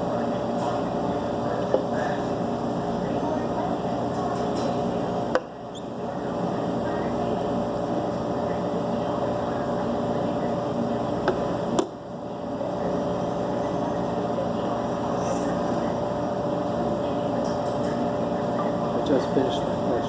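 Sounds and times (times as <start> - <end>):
mechanical hum with held tones: 0.0 - 20.0.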